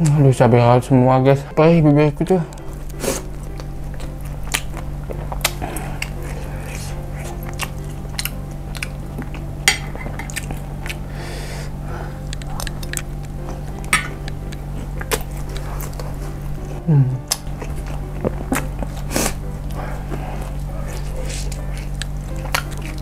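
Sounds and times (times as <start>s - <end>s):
chewing mouth sounds: 2.5s - 11.1s, 12.1s - 23.0s.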